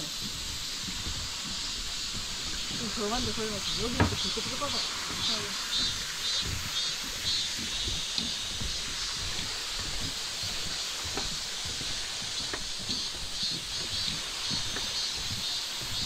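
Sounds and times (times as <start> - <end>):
footsteps on wooden boardwalk: 0.0 - 16.0
insects droning: 0.0 - 16.0.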